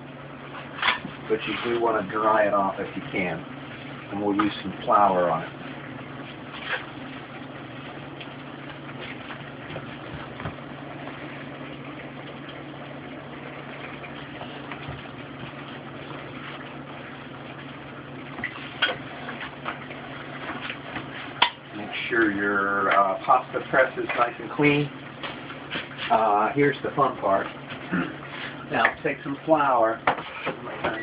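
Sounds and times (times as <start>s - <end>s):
pots simmering hiss: 0.0s - 31.0s.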